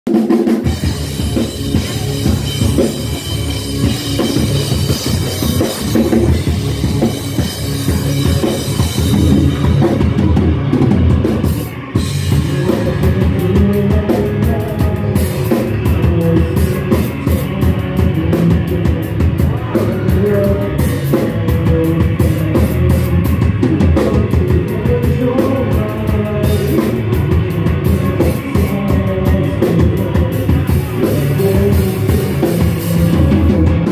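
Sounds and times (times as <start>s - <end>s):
driving drum kit: 0.0s - 33.9s
electric guitars: 0.1s - 33.9s.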